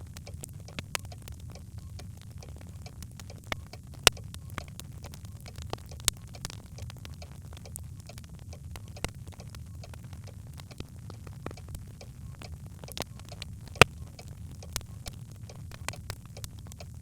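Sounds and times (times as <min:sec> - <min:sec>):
logs crackling in fireplace: 0:00.0 - 0:17.0
low steady rumble: 0:00.0 - 0:17.0.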